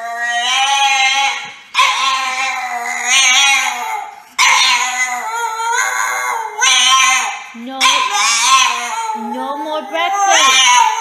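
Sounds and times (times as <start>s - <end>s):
dog howling and whining: 0.0s - 11.0s.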